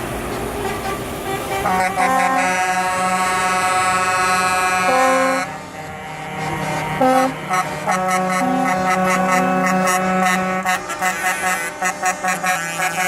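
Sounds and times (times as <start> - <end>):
truck air horns blowing: 0.3 - 13.0.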